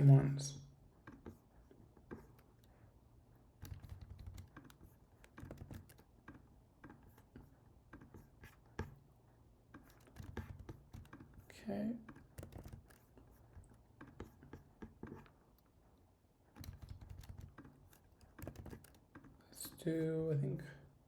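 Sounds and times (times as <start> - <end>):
faint keyboard typing: 0.9 - 20.1.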